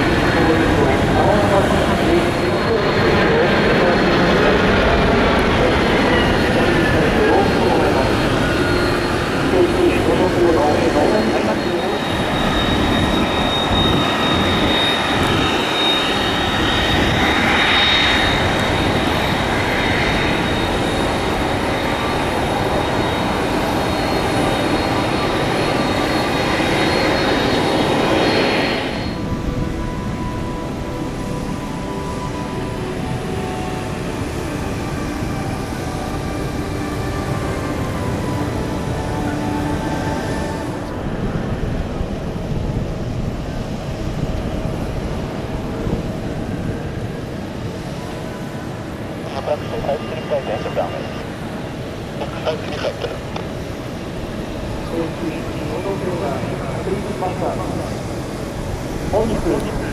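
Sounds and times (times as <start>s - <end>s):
high engine whine: 0.0s - 59.9s
jet engines rushing: 0.0s - 59.9s.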